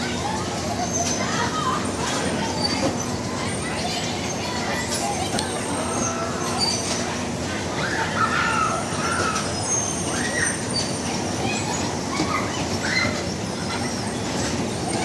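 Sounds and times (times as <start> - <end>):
bumper car ride running: 0.0 - 15.0.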